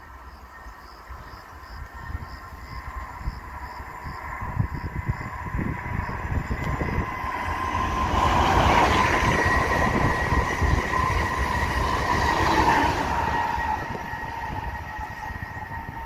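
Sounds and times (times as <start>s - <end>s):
high-speed train passing: 0.0s - 16.0s
steady high whine: 0.0s - 16.0s.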